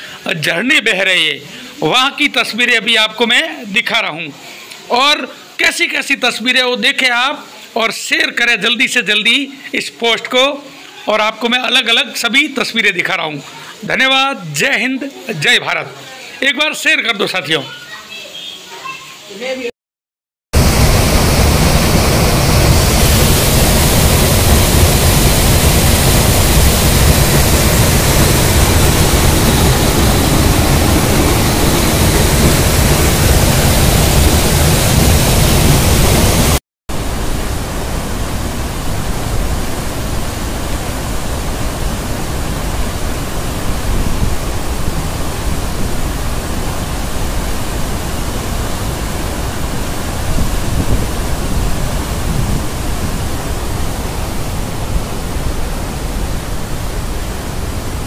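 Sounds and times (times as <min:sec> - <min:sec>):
waterfall rushing over boulders: 0:00.0 - 0:18.0, 0:20.6 - 0:58.0.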